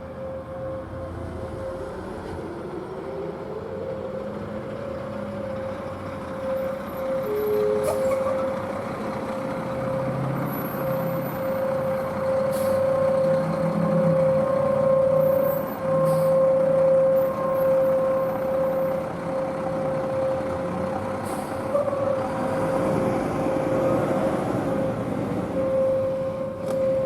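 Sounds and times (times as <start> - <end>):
road traffic: 0.0 - 27.0
steady warning siren tone: 0.0 - 27.0.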